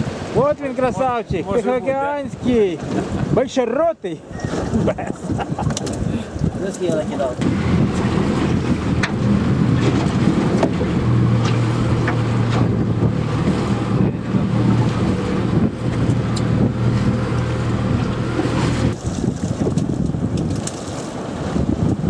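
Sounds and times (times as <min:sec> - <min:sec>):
wind buffeting microphone: 0:00.0 - 0:03.6, 0:04.2 - 0:22.0
outboard motor humming: 0:04.2 - 0:22.0.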